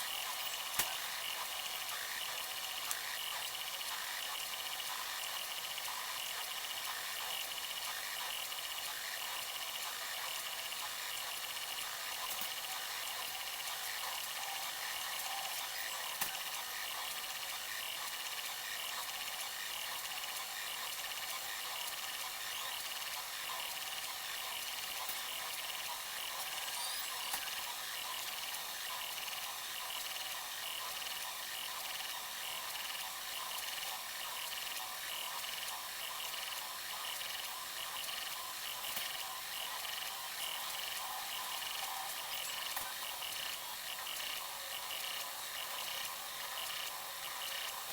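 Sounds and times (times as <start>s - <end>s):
printer motors whirring: 0.0s - 47.9s.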